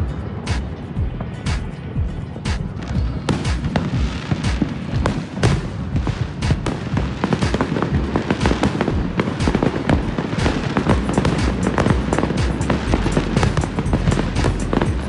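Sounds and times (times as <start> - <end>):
fireworks bangs and crackles: 0.0 - 15.0
deep fireworks booms: 0.3 - 15.0.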